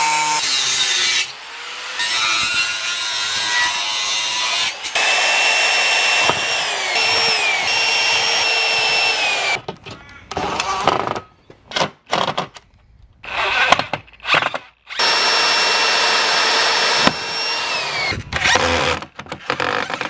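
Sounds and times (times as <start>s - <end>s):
power saw cutting timber: 0.0s - 9.6s, 13.2s - 20.0s.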